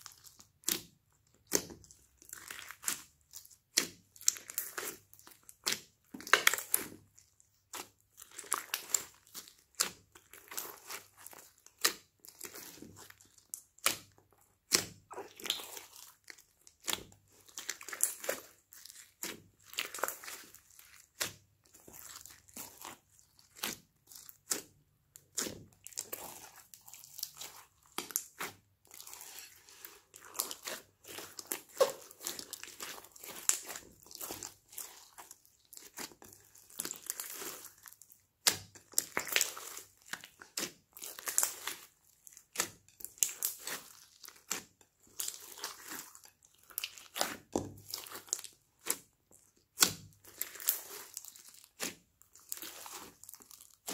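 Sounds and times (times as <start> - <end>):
slime squishing and crackling: 0.0 - 53.9.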